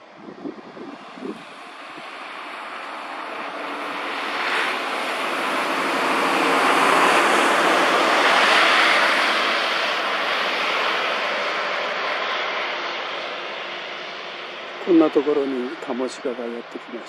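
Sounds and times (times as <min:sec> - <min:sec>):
snowblower rushing noise: 0:00.0 - 0:17.0.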